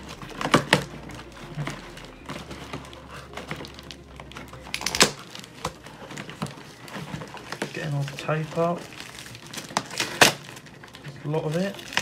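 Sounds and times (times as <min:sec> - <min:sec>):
packing tape peeled from box: 0:00.0 - 0:12.0.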